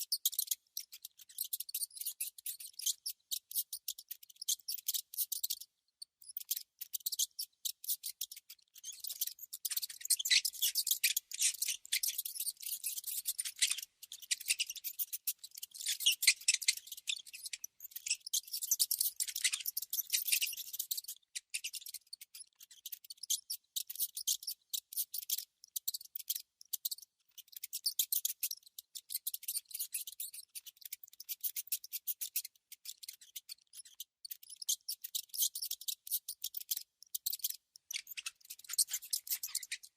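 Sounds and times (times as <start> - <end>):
mouse scratching and nibbling: 6.2 - 39.9.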